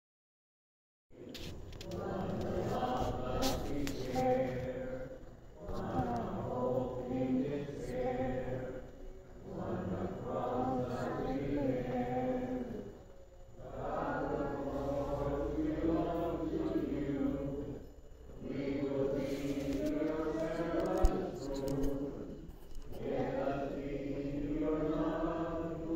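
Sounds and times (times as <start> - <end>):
congregation singing a hymn: 1.2 - 25.9.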